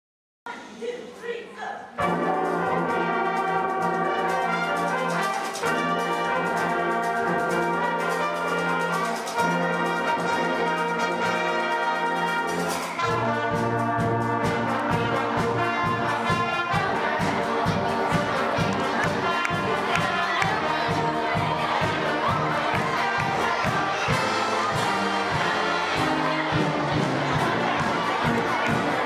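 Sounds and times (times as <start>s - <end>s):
brass band playing: 1.9s - 29.0s.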